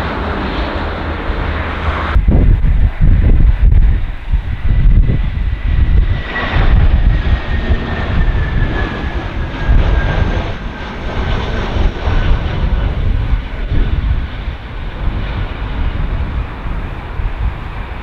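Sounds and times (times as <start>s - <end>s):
jet engine whine: 0.0s - 18.0s.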